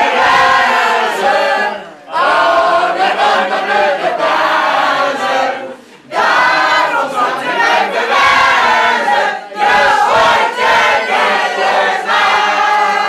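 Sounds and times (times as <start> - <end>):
group of men and women singing: 0.0 - 13.0.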